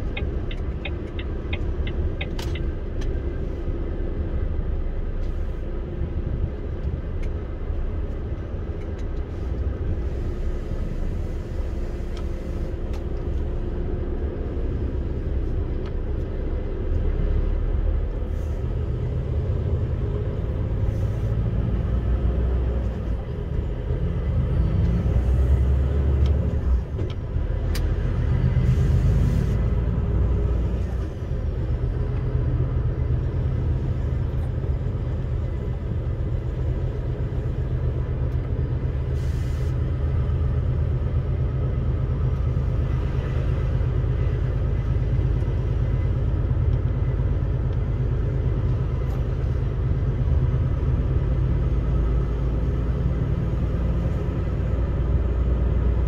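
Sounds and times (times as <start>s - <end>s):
vehicle engine driving: 0.0s - 56.0s.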